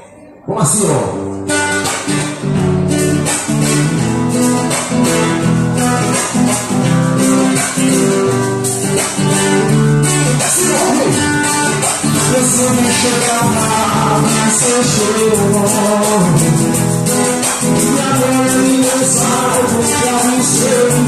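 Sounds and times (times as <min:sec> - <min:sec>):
band playing with strummed guitar: 0:01.1 - 0:21.0.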